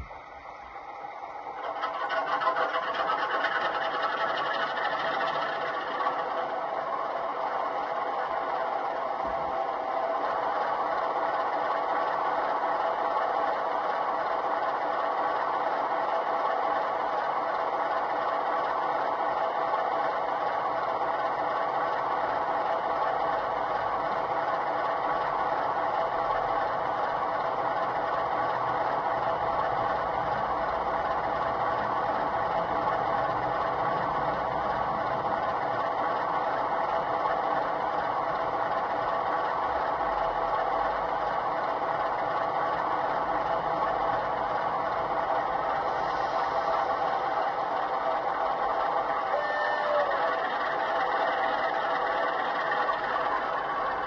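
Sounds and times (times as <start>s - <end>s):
model locomotive engine idling: 0.0s - 54.0s.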